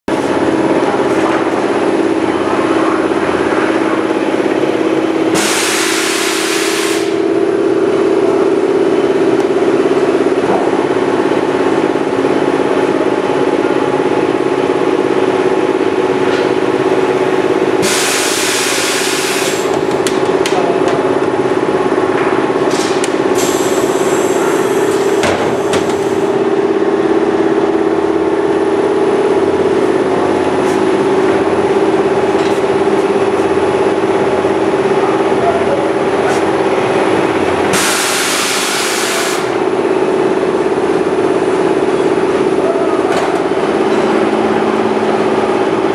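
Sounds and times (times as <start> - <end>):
duct forming machine humming: 0.1 - 45.9.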